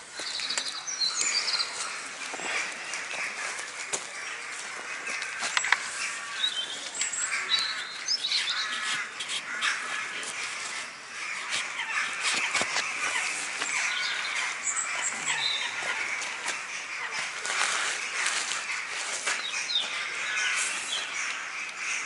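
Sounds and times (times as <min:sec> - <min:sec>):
crows calling harshly: 0:00.0 - 0:22.0
small birds chirping: 0:00.0 - 0:22.0.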